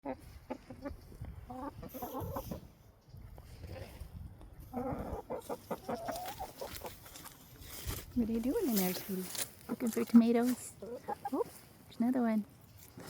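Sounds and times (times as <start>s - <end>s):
hens clucking: 0.0s - 11.9s.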